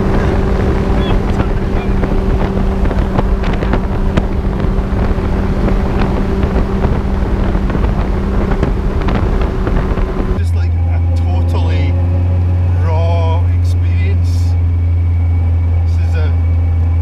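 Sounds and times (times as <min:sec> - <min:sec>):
wind buffeting microphone: 0:00.0 - 0:15.5
car engine droning: 0:00.0 - 0:17.0.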